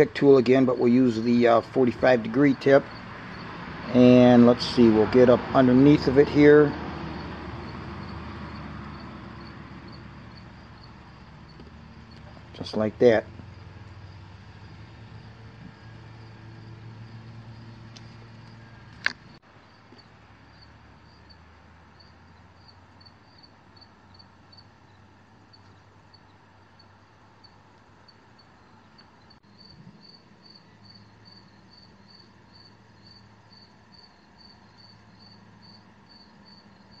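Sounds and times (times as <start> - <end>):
insect chirping: 0.0 - 37.0.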